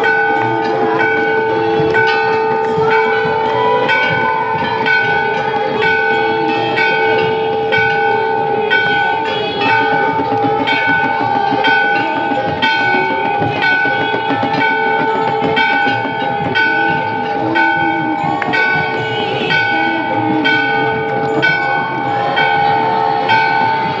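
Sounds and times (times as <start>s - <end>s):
bell struck: 0.0s - 24.0s
clatter of bells ringing: 0.0s - 24.0s.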